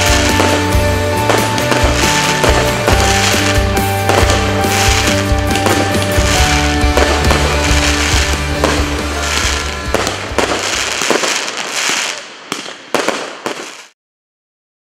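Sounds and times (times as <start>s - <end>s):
background music: 0.0s - 12.4s
fireworks bursting and crackling: 0.0s - 14.0s
sharp fireworks bangs: 0.0s - 14.0s.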